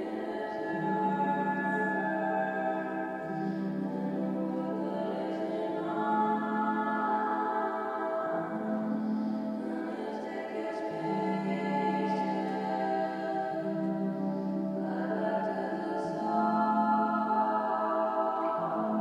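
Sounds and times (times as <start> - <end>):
slow music with held chords: 0.0 - 19.0.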